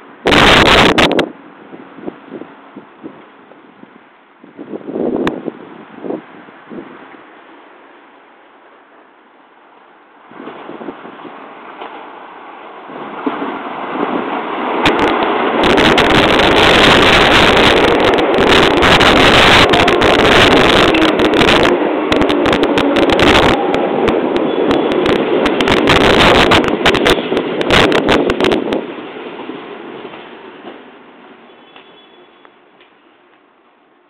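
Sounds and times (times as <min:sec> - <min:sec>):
train passing at speed: 0:00.0 - 0:34.0.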